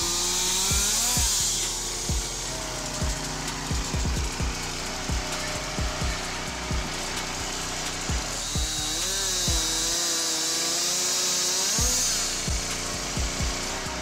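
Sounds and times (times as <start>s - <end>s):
background music with beat: 0.0s - 11.0s, 11.6s - 14.0s
power saw cutting wood: 0.0s - 14.0s.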